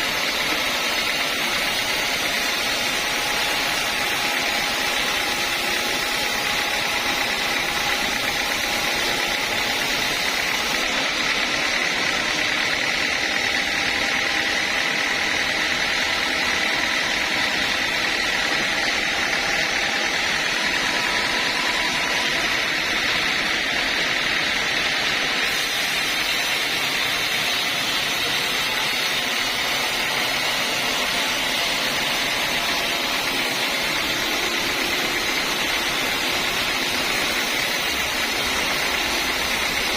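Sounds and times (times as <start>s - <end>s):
sawmill saw whining: 0.0s - 39.9s.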